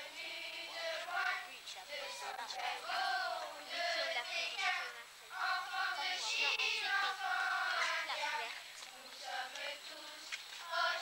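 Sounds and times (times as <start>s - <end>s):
children singing in chorus: 0.0s - 11.0s.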